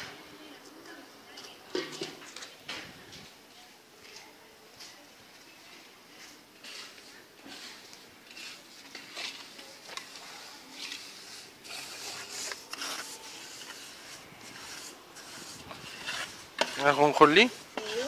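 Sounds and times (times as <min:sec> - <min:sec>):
faint rustling and scraping: 0:00.0 - 0:18.0.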